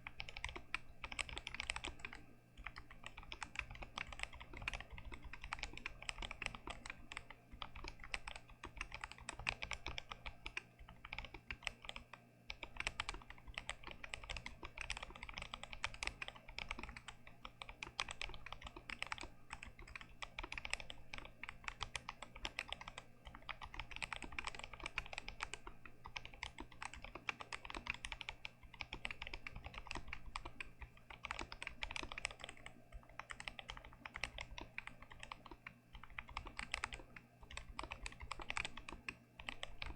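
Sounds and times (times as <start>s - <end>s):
faint low hum: 0.0s - 39.9s
fast mechanical keyboard typing: 0.0s - 39.9s.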